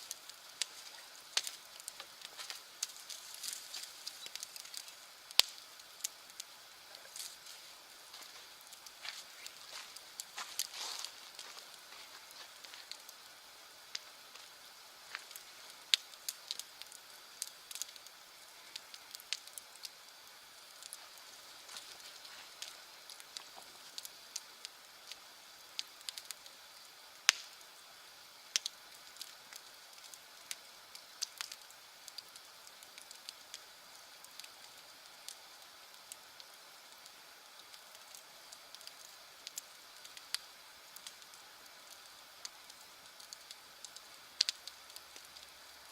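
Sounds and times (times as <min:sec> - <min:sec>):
bonfire crackling and popping: 0:00.0 - 0:45.9.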